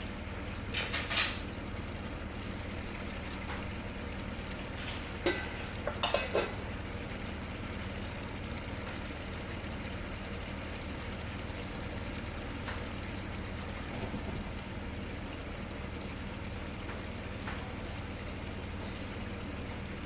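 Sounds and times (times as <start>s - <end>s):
sauce bubbling in a frying pan: 0.0s - 20.0s.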